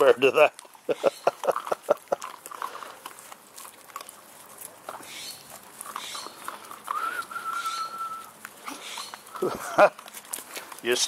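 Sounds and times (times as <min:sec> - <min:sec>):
puppies scuffling: 0:00.0 - 0:11.0
puppies yipping: 0:00.6 - 0:11.0.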